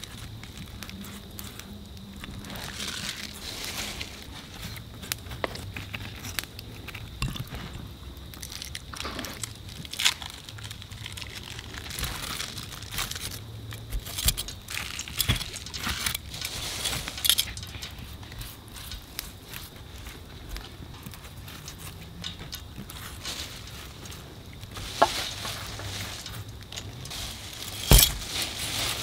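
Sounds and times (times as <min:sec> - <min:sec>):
paper towel crinkling: 0:00.0 - 0:07.6, 0:08.4 - 0:29.0
fried food crackling: 0:00.0 - 0:29.0.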